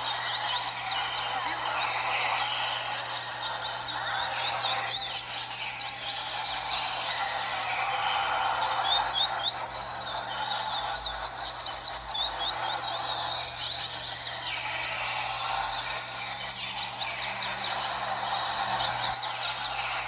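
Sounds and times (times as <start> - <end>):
birds chirping together: 0.0 - 20.0.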